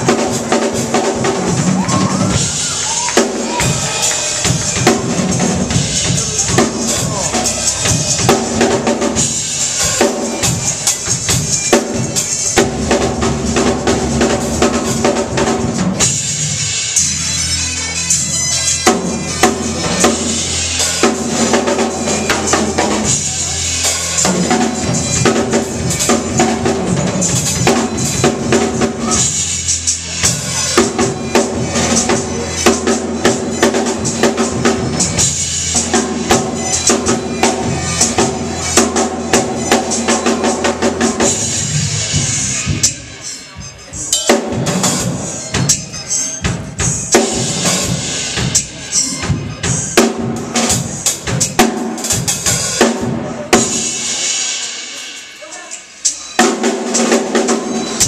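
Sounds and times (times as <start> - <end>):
drum kit playing fast: 0.0 - 58.0.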